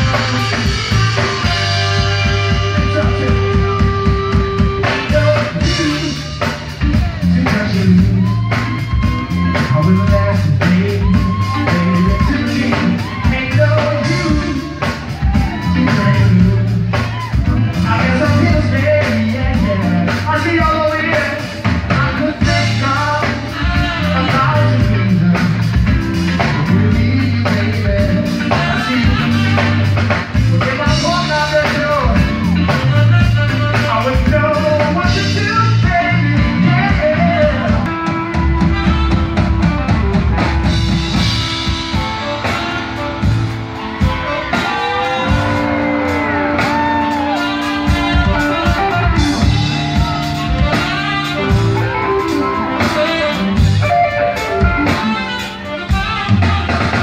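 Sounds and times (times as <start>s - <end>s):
person singing: 0.0s - 38.4s, 40.8s - 57.0s
bass guitar: 0.0s - 57.0s
drums: 0.0s - 57.0s
electric guitar: 0.0s - 57.0s.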